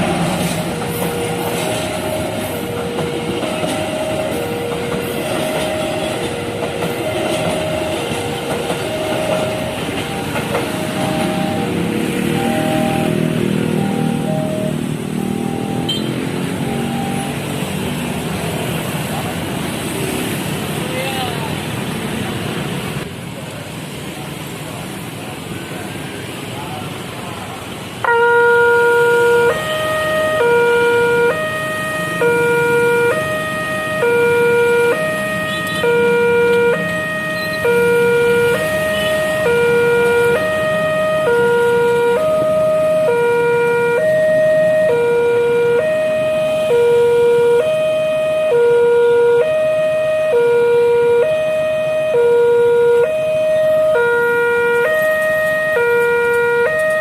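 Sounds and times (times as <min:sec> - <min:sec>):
two-tone crossing alarm: 0:00.0 - 0:18.9, 0:28.0 - 0:57.0
road traffic: 0:00.0 - 0:57.0.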